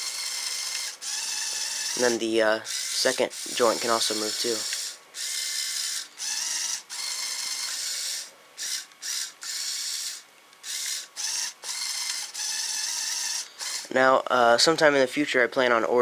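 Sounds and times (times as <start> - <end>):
high-pitched electric motor whirring: 0.0 - 14.0.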